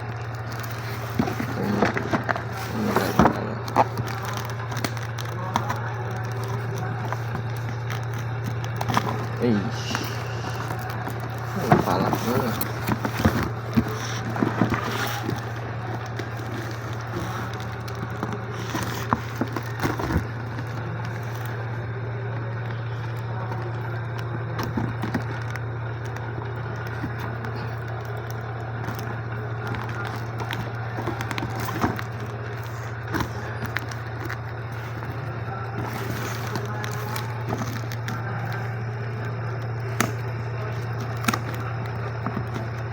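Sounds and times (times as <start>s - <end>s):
plastic parts clicking and knocking: 0.0s - 21.7s, 22.6s - 42.9s
packaging rustling: 0.0s - 42.9s
steady low hum: 0.0s - 42.9s.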